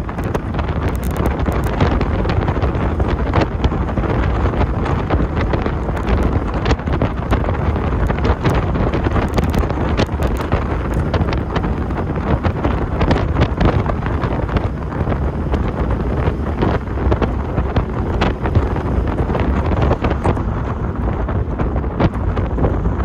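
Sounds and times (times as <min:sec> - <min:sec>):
car engine: 0:00.0 - 0:23.0
road noise: 0:00.0 - 0:23.0
wind buffeting microphone: 0:00.0 - 0:23.0.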